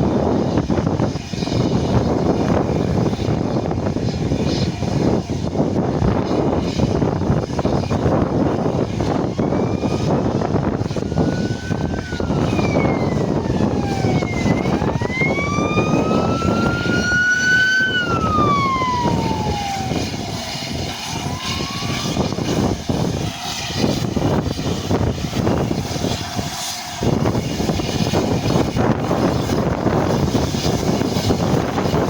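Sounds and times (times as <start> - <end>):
steam locomotive exhaust rushing: 0.0 - 32.0.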